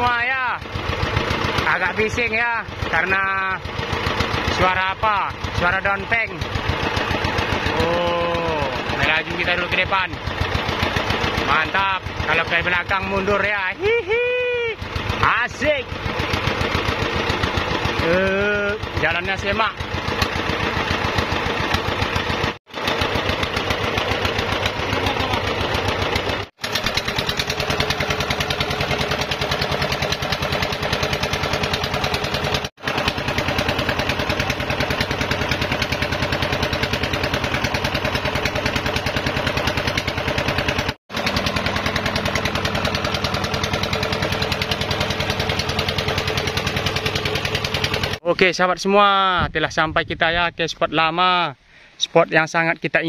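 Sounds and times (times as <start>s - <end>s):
diesel boat engine chugging: 0.0s - 49.4s.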